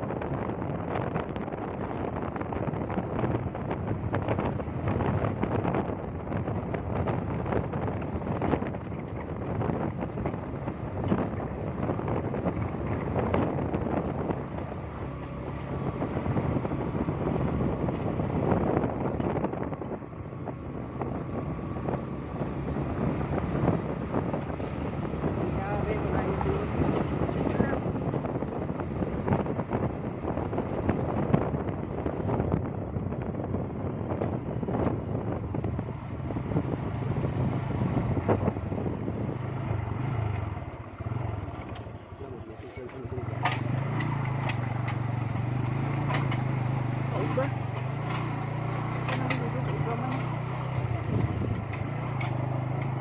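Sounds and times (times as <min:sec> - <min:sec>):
wind buffeting microphone: 0:00.0 - 0:40.8, 0:43.0 - 0:53.0
vehicle engine humming: 0:00.0 - 0:53.0.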